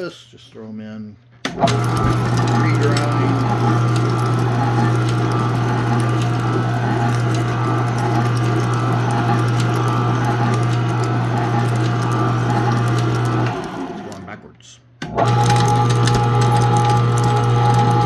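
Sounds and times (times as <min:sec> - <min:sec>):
plastic cracking in shredder: 0:01.4 - 0:14.3, 0:15.0 - 0:18.0
shredder motor humming: 0:01.5 - 0:14.3, 0:15.0 - 0:18.0.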